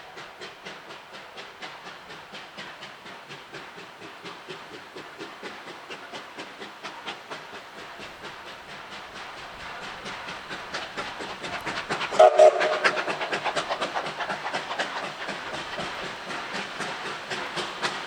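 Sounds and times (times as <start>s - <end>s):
steam locomotive chuffing: 0.0s - 18.0s.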